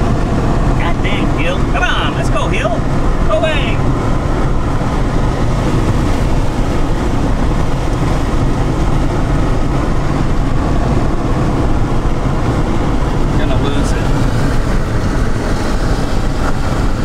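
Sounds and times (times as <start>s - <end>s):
road and engine noise in car cabin: 0.0s - 17.0s.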